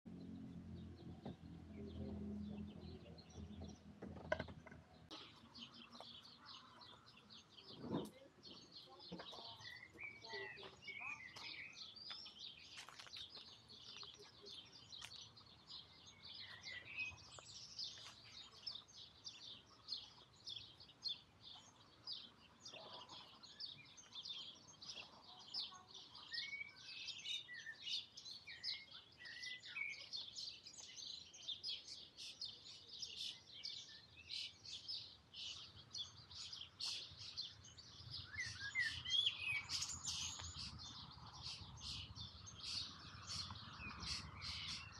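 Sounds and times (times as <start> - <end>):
small birds chirping: 0.1 - 44.9.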